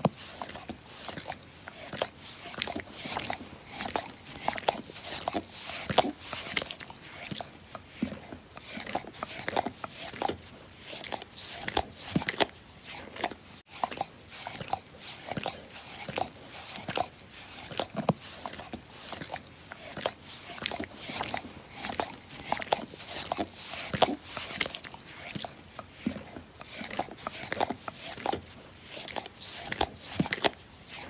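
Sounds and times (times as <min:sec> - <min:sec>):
dog licking: 0:00.1 - 0:30.6.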